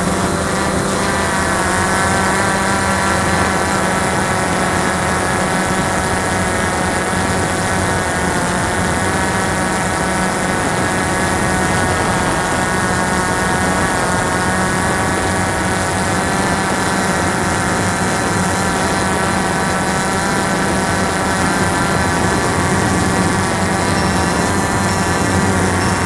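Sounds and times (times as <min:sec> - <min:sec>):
drone propellers humming: 0:00.0 - 0:26.0.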